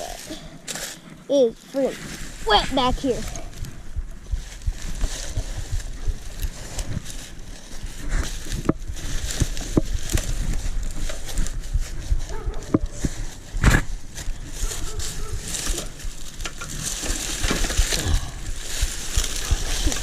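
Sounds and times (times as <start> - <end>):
leaves and twigs crunching: 0.0 - 20.0
low steady rumble: 0.0 - 20.0.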